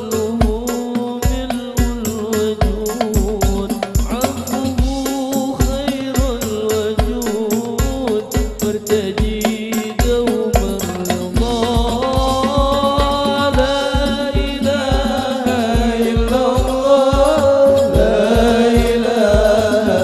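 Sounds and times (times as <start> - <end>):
man singing: 0.0 - 20.0.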